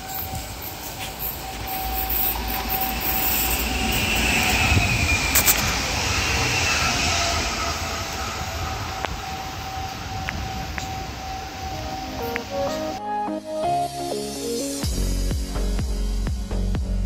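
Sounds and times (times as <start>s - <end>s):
electric train passing: 0.0s - 16.7s.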